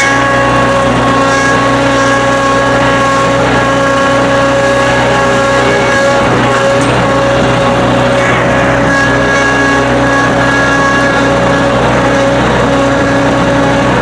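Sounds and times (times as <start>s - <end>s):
high whine: 0.0s - 14.0s
skid steer engine drone: 0.0s - 14.0s.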